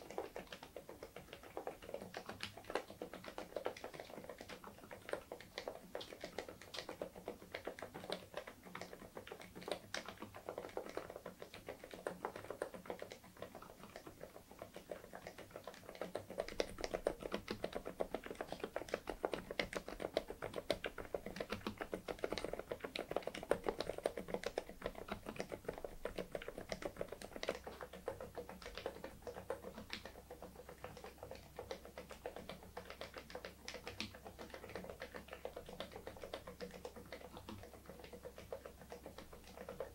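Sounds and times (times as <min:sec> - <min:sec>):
soft mechanical keyboard typing: 0:00.0 - 0:39.9.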